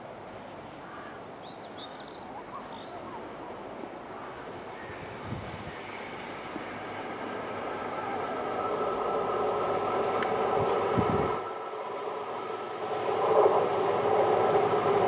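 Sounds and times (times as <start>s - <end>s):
train approaching: 0.0s - 15.0s.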